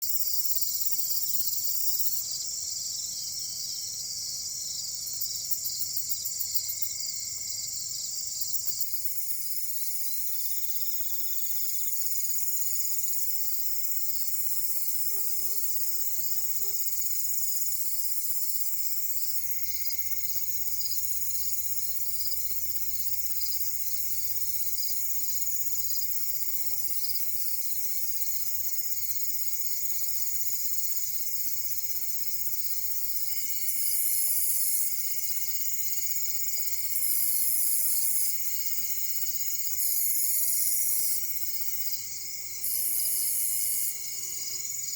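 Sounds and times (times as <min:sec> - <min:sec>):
crickets and insects chirring: 0:00.0 - 0:44.9.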